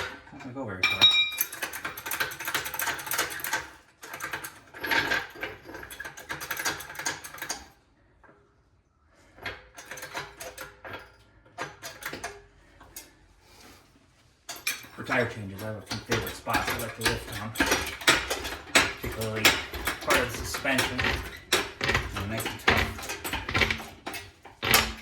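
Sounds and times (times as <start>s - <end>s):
metal floor jack clattering: 0.0s - 7.7s, 9.4s - 13.1s, 14.5s - 25.0s.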